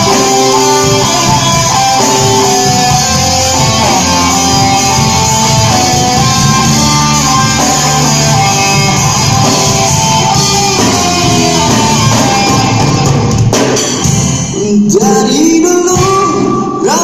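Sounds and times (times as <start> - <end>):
bass guitar: 0.0 - 14.6
live band guitar instrumental: 0.0 - 16.9.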